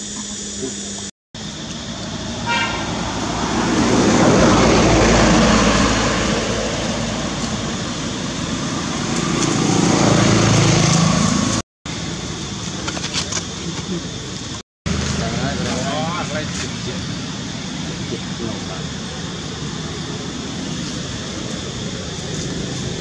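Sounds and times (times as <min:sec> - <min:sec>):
vehicles passing by: 0:01.0 - 0:23.0.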